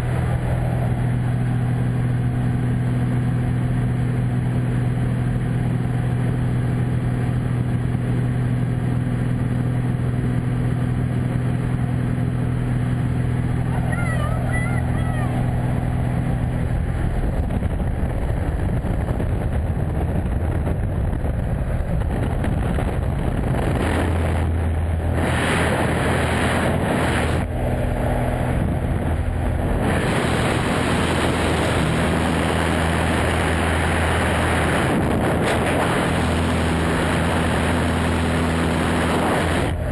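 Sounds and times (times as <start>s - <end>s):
plane engine droning: 0.0s - 39.9s.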